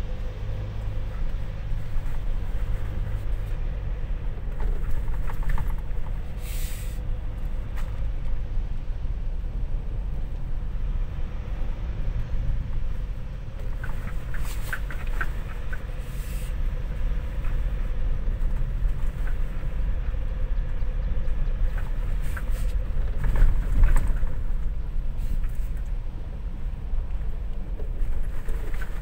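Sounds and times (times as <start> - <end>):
truck driving on gravel: 0.0 - 29.0.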